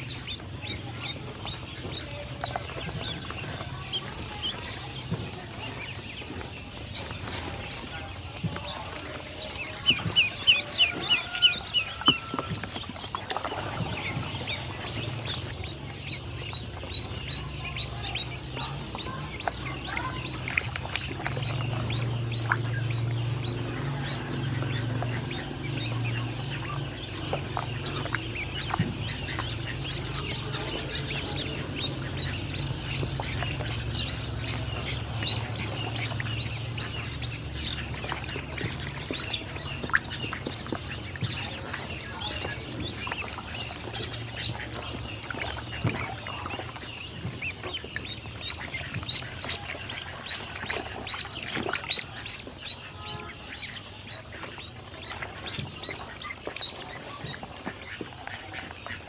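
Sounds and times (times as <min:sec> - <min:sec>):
ducklings peeping: 0:00.0 - 0:59.0
small water splashes: 0:00.0 - 0:59.0.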